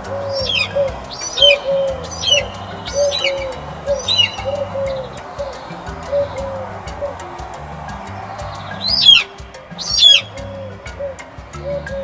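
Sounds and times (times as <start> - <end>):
high falling bird calls: 0.0 - 7.2, 8.0 - 11.8
soft background music: 0.0 - 12.0.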